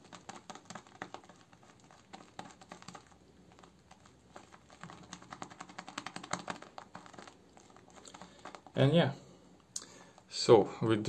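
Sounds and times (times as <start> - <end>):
shaving brush crackling in lather: 0.0 - 9.2.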